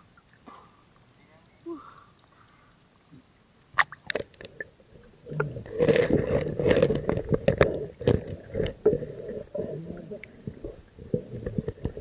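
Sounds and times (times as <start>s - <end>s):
underwater sloshing and gurgling: 2.2s - 12.0s.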